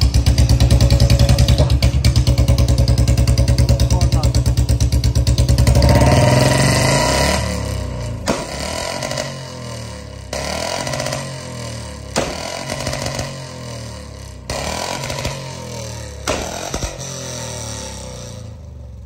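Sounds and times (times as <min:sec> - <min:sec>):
exhaust backfire pops: 0:00.0 - 0:02.7, 0:05.7 - 0:18.7
motorcycle engine revving: 0:00.0 - 0:19.0.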